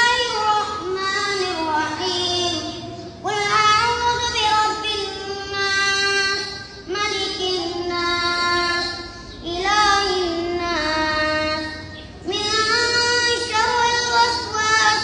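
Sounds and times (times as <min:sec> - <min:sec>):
boy chanting recitation: 0:00.0 - 0:15.0.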